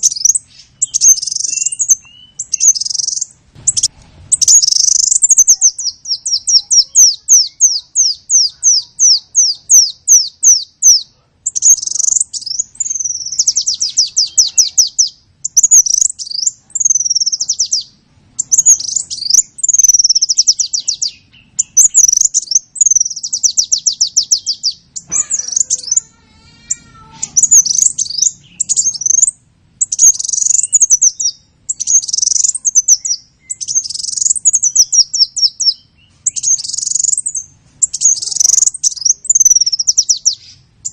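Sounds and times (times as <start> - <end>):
songbird singing chirps and trills: 0.0 - 40.9.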